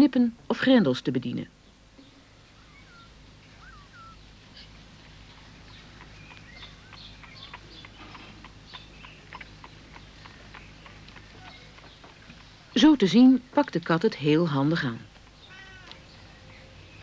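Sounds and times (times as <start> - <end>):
low steady hum: 0.0 - 17.0
small birds chirping: 1.5 - 17.0.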